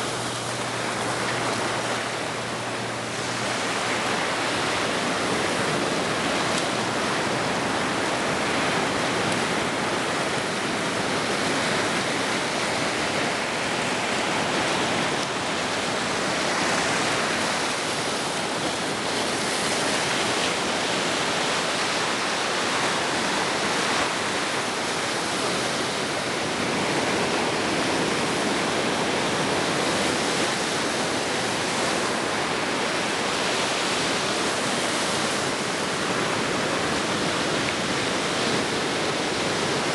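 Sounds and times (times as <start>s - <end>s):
ocean surf on beach: 0.0s - 39.9s.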